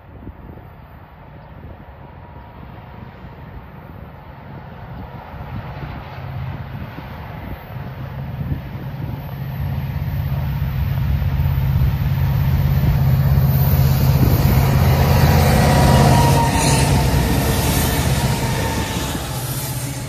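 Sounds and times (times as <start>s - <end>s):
diesel locomotive engine drone: 0.0s - 20.0s
freight train passing: 0.0s - 20.0s.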